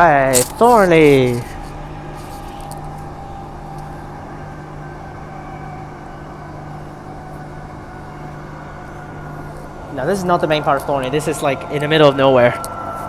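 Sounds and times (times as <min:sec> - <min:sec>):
electric train hum: 0:00.0 - 0:13.0
wheels rumbling on rails: 0:00.0 - 0:13.0.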